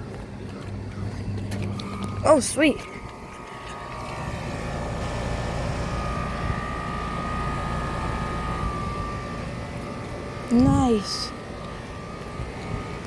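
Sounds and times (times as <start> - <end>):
air conditioner fan and compressor: 0.0 - 13.0
thin steady whine: 0.0 - 13.0.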